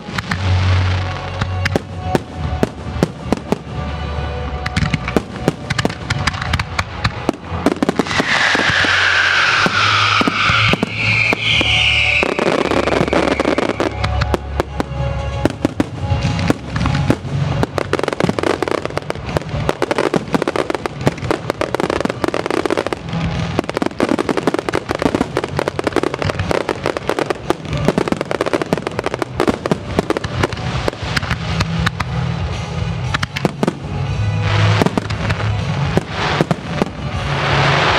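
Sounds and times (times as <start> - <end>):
fireworks bangs and crackles: 0.0 - 37.9
music: 0.0 - 37.9.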